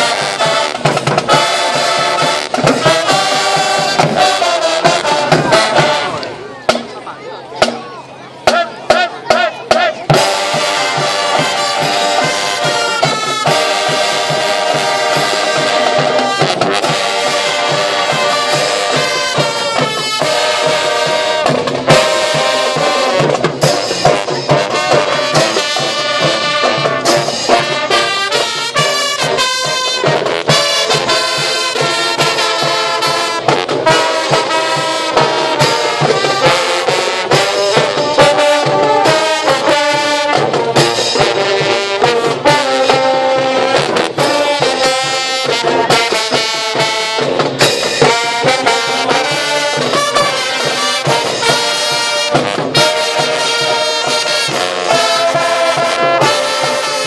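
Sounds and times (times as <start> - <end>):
marching band brass chords: 0.0 - 57.0
marching drums beat: 0.0 - 57.0.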